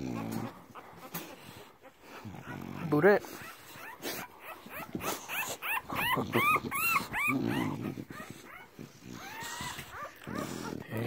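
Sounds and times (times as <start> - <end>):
puppy grunting: 0.0 - 11.0
puppy squealing: 1.8 - 11.0.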